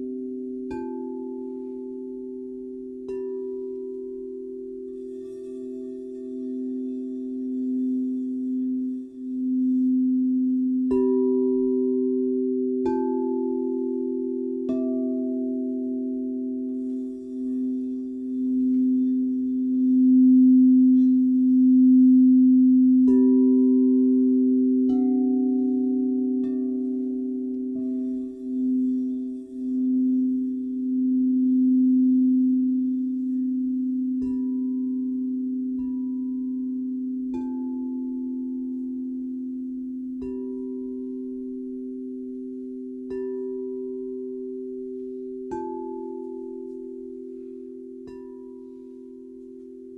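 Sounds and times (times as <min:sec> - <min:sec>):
low singing bowl humming: 0:00.0 - 0:49.9
crystal singing bowls struck: 0:04.9 - 0:49.9.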